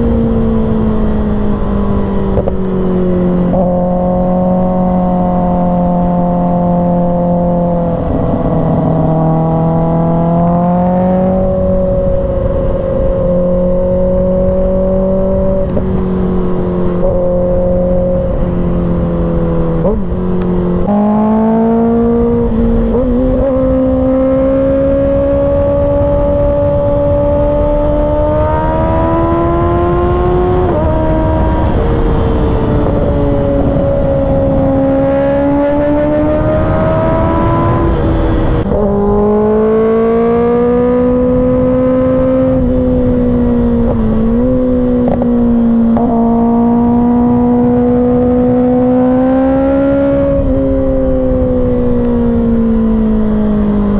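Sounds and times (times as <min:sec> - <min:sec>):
motorcycle engine running hard: 0:00.0 - 0:53.9.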